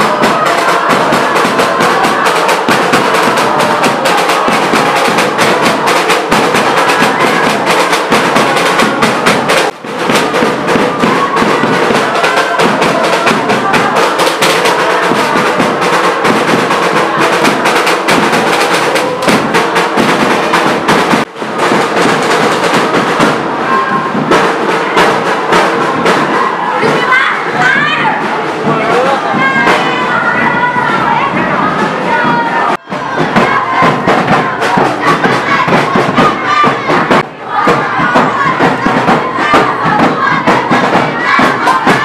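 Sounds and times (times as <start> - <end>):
crowd cheering and chanting: 0.0 - 42.0
fast loud drumming: 0.0 - 42.0.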